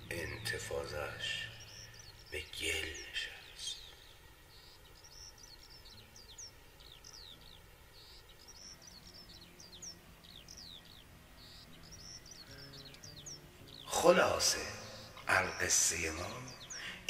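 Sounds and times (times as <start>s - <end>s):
bird chirping faintly: 0.0s - 17.0s.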